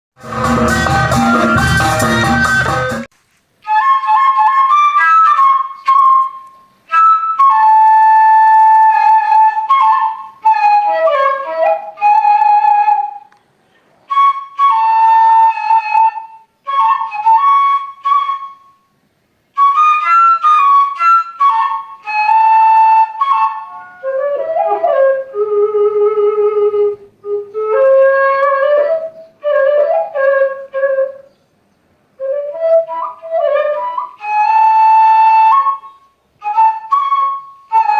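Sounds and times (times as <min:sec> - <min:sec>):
bamboo flute melody: 0:00.2 - 0:13.4, 0:14.0 - 0:31.4, 0:32.2 - 0:37.9.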